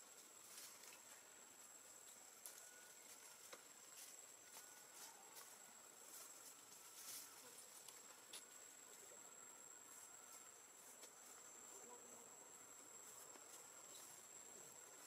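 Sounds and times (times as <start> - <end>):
high-pitched insect tone: 0.0 - 15.0.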